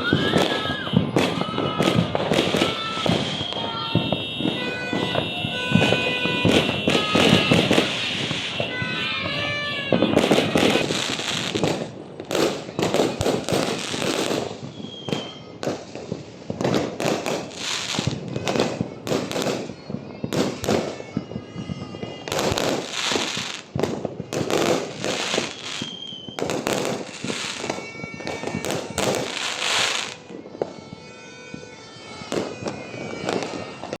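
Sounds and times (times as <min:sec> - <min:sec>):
fireworks and firecrackers banging: 0:00.0 - 0:34.0.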